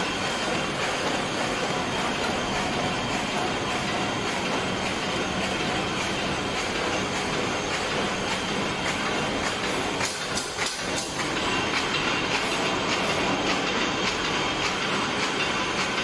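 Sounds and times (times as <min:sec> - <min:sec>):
machine clattering: 0:00.0 - 0:16.0.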